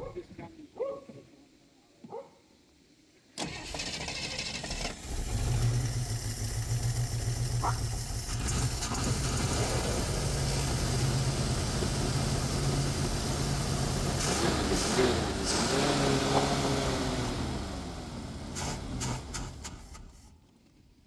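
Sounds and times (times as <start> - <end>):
car engine idling: 3.4 - 20.3.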